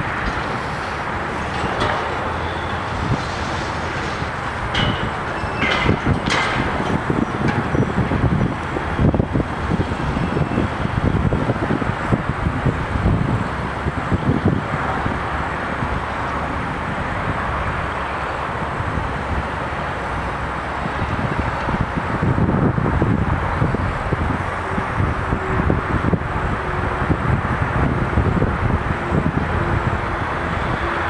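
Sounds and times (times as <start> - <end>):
distant rumble: 0.0 - 31.0
wind buffeting microphone: 0.0 - 31.0.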